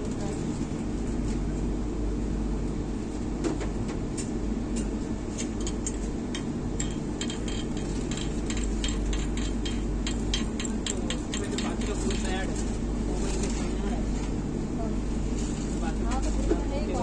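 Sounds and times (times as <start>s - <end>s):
train carriage hum: 0.0s - 17.0s.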